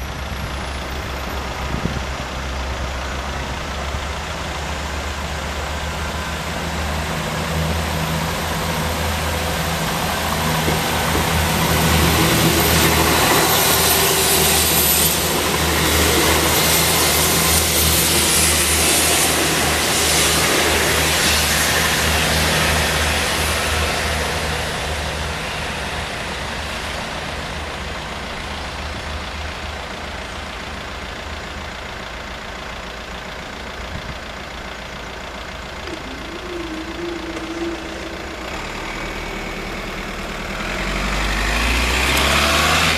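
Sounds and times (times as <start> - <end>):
diesel train passing: 0.0 - 42.9.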